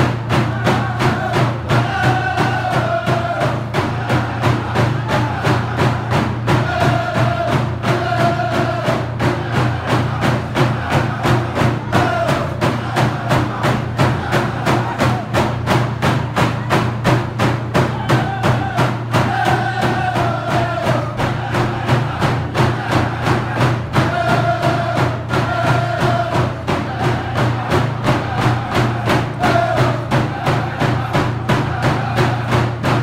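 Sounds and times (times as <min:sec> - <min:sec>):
hand drums beating: 0:00.0 - 0:33.0
voices singing a chant: 0:00.0 - 0:33.0.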